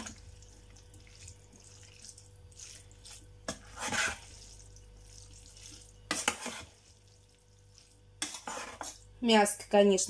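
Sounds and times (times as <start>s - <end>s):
wet stirring swishes: 0.0s - 9.1s.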